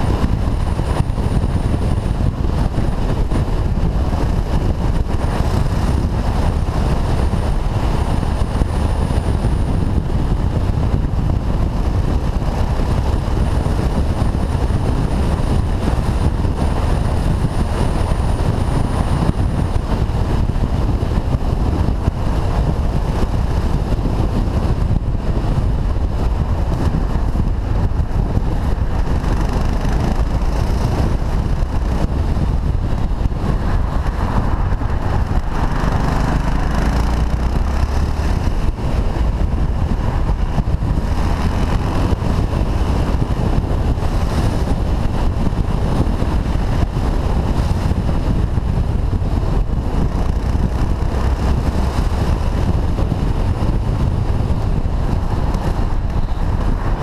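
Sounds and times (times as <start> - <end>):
motorcycle engine running: 0.0 - 57.0
wind rush on helmet: 0.0 - 57.0.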